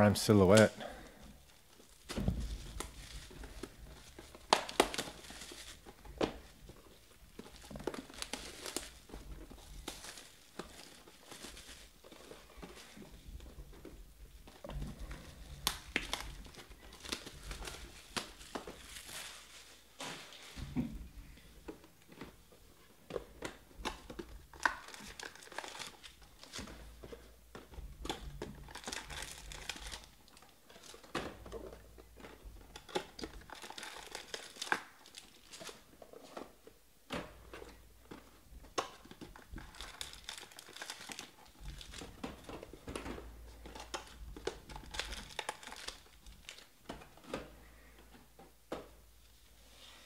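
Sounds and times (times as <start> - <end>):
wrapped card packs crinkling: 0.0 - 20.6, 21.2 - 47.9.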